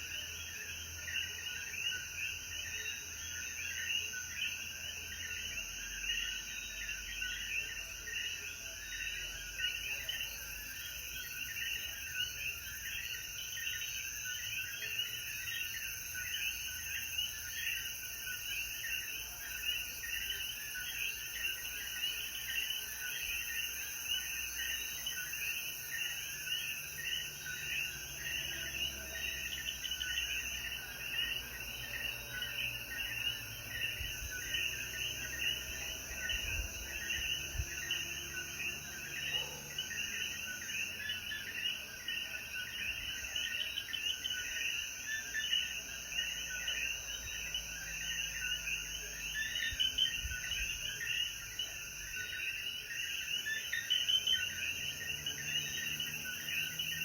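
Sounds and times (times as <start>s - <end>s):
frogs calling in chorus: 0.0s - 57.0s.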